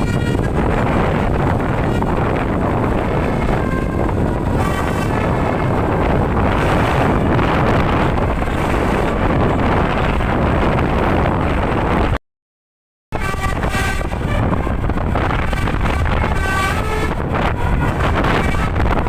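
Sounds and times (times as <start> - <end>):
faint horn tones: 0.0 - 10.2, 13.2 - 19.0
road and vehicle noise: 0.0 - 12.2, 13.2 - 19.0
wind buffeting microphone: 0.0 - 12.2, 13.1 - 19.0.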